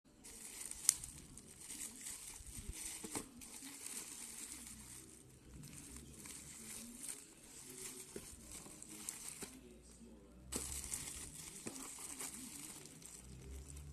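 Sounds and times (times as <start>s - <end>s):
crinkling and rustling: 0.2s - 13.9s.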